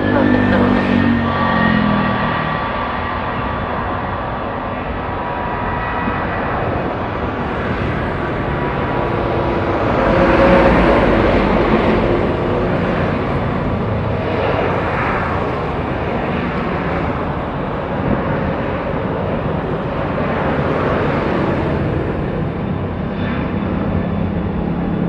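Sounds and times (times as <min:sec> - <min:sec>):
loud jet engine noise: 0:00.0 - 0:25.0.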